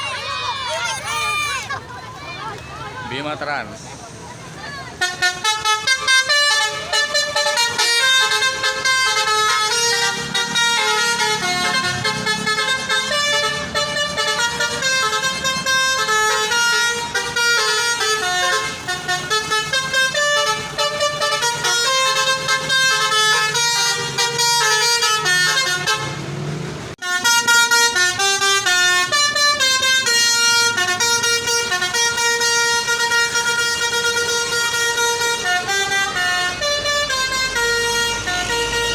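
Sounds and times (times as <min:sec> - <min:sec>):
bus engine running: 0:00.0 - 0:38.9
bus horn playing melody: 0:04.9 - 0:38.9.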